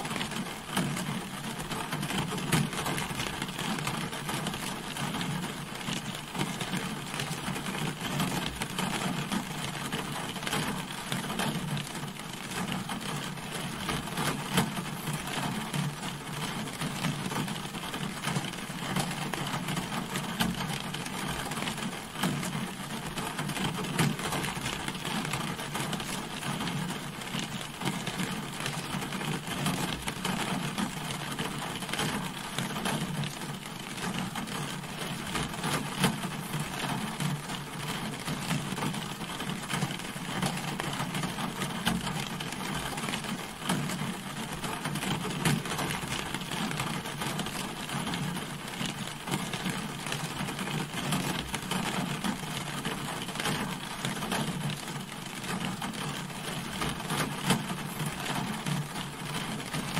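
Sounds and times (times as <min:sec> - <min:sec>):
rain pattering on a car: 0:00.0 - 0:59.9.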